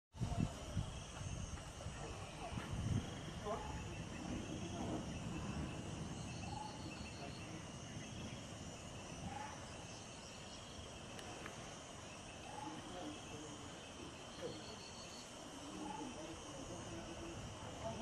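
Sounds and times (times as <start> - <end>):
insects chirring: 0.2 - 18.0.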